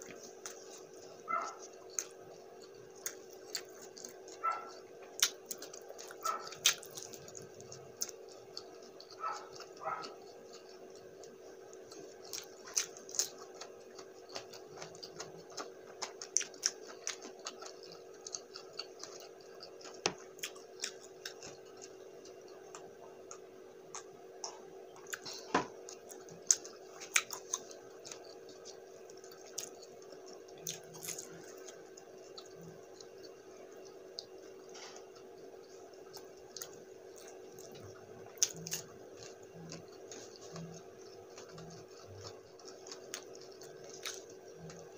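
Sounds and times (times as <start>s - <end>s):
person chewing food: 0.0s - 44.9s
steady hum: 0.0s - 44.9s.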